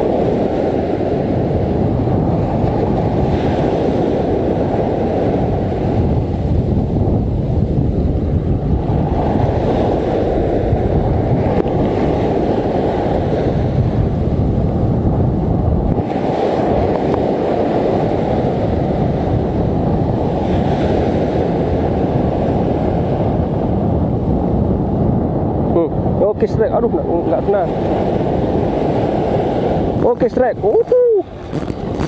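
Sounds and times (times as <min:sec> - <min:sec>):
waves breaking on beach: 0:00.0 - 0:32.0
wind buffeting microphone: 0:00.0 - 0:32.0.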